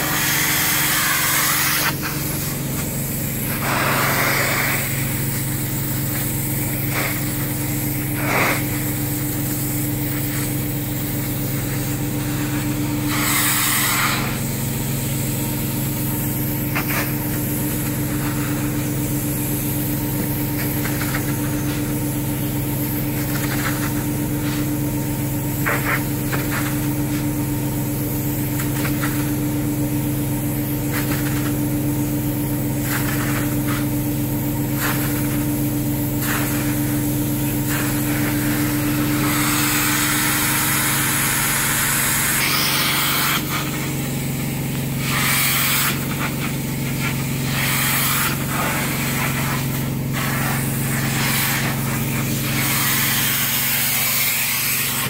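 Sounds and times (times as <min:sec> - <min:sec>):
carpet cleaning machine humming: 0:00.0 - 0:55.0
hissing suction on fabric: 0:00.0 - 0:55.0.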